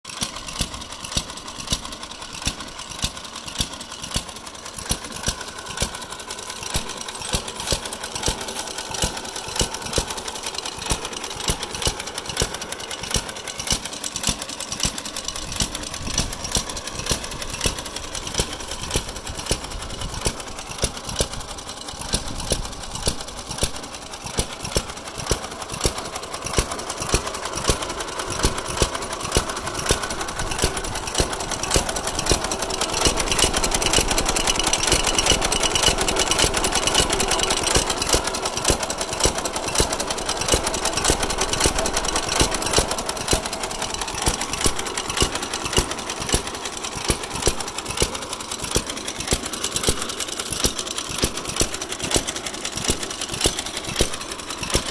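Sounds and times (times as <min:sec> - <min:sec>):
engine clatter of mechanical ticks: 0:00.1 - 0:54.9.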